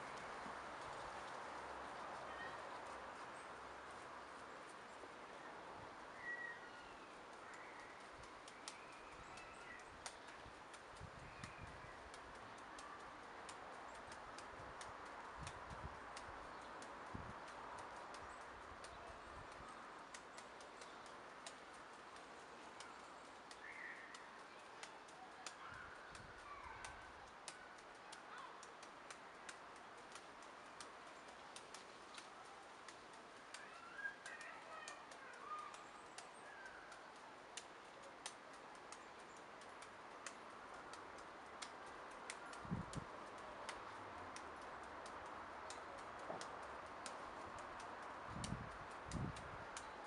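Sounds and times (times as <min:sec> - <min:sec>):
birds chirping: 0:00.0 - 0:14.5, 0:16.1 - 0:50.0
soft ticks of juggling balls caught: 0:07.0 - 0:50.0.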